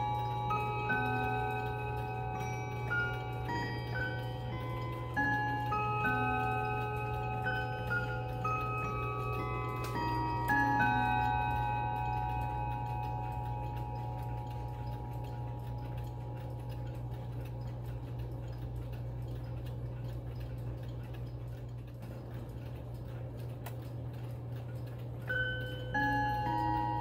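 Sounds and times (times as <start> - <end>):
clock chime ringing: 0.0 - 21.2, 24.2 - 27.0
clock ticking: 0.0 - 27.0.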